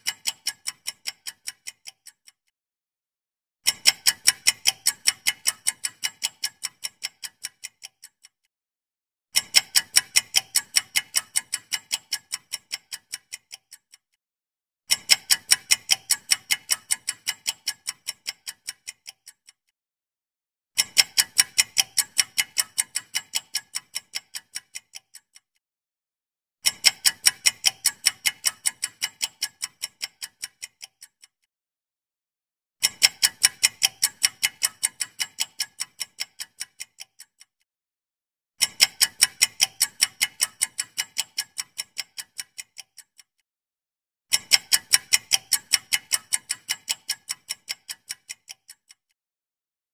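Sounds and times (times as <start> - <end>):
clock ticking: 0.0 - 2.4, 3.6 - 8.4, 9.4 - 14.1, 14.9 - 19.6, 20.8 - 25.5, 26.6 - 31.4, 32.8 - 37.5, 38.6 - 43.3, 44.3 - 49.2.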